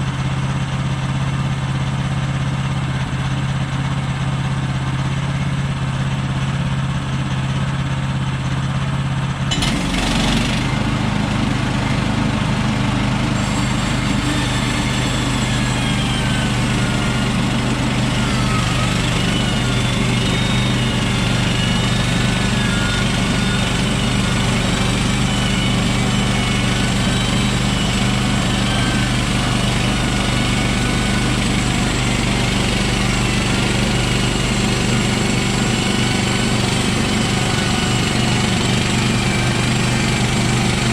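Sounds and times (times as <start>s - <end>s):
band saw blade whine: 0.0s - 40.9s
gas engine idling and revving: 0.0s - 40.9s.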